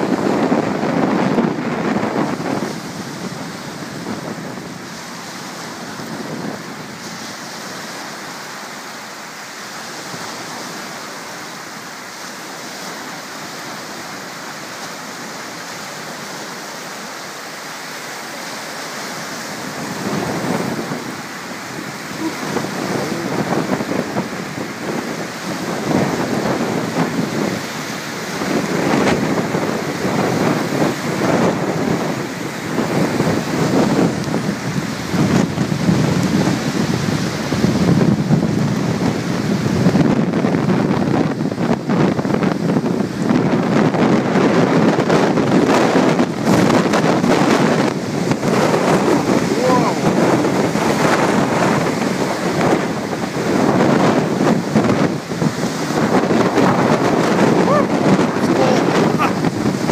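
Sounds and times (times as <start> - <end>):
strong wind: 0.0 - 59.9
waves washing onto pebbles: 0.0 - 59.9
wind buffeting microphone: 0.0 - 59.9.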